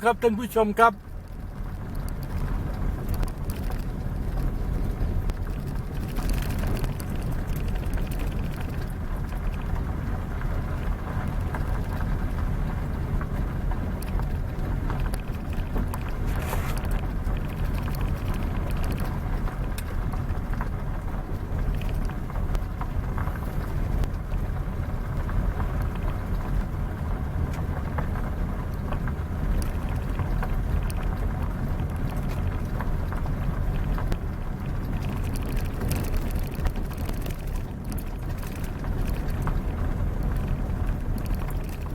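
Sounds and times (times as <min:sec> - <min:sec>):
vehicle engine and road noise: 0:00.0 - 0:41.9.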